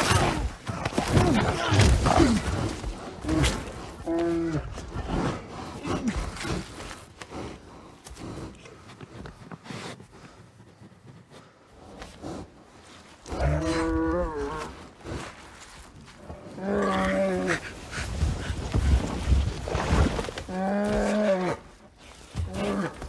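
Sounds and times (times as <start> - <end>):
bear snuffling and huffing: 0.0 - 23.0.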